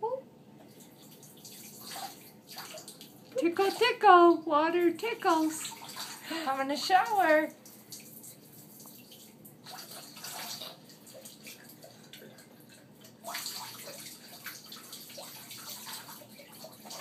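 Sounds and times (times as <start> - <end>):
water pouring into bath water: 0.6 - 17.0.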